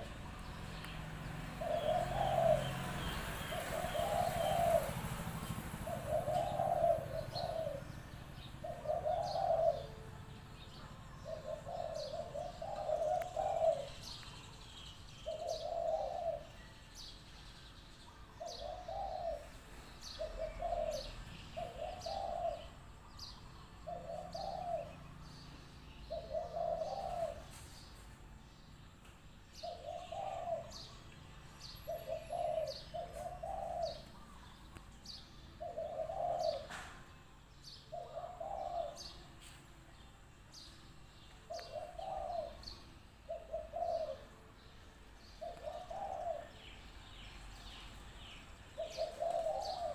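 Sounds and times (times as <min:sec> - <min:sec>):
doves cooing: 0:00.0 - 0:16.6, 0:18.4 - 0:25.4, 0:26.1 - 0:28.0, 0:29.5 - 0:39.6, 0:40.5 - 0:49.9
small birds chirping: 0:00.0 - 0:49.9.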